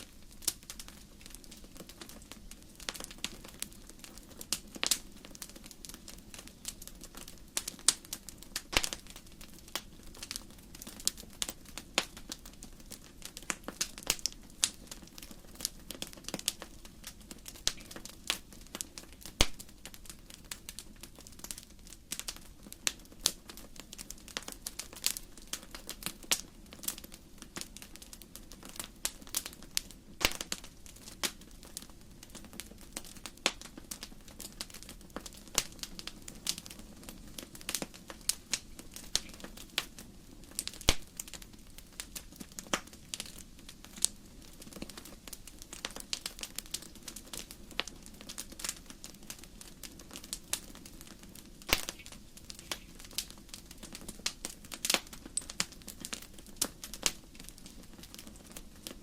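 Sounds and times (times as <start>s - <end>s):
burning logs popping and snapping: 0.0s - 59.0s
low hiss of flames: 0.0s - 59.0s.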